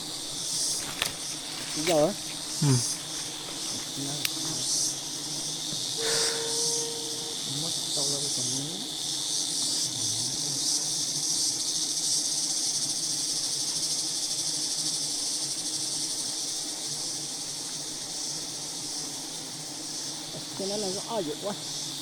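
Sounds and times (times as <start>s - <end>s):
insects singing: 0.0s - 22.0s.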